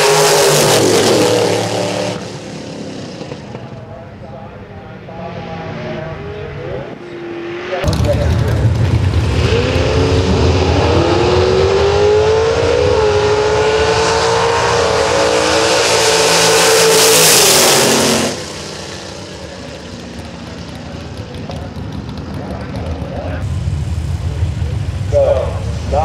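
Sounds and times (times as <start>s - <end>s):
drag car engines accelerating: 0.0s - 26.0s.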